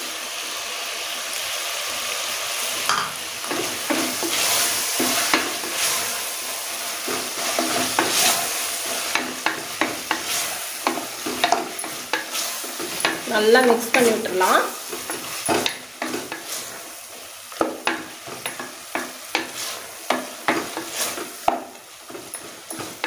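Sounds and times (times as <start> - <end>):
food sizzling in a pot: 0.0 - 23.0
spatula scraping and knocking pan: 2.9 - 23.0.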